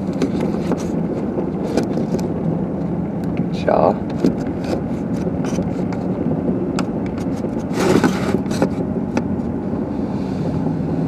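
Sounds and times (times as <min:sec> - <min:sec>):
car engine running: 0:00.0 - 0:09.6
tyres on snowy road: 0:00.0 - 0:10.6.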